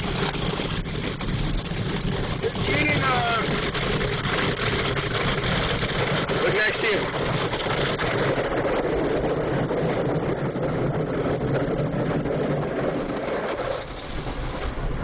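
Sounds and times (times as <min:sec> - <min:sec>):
car wash water spray and machinery: 0:00.0 - 0:15.0.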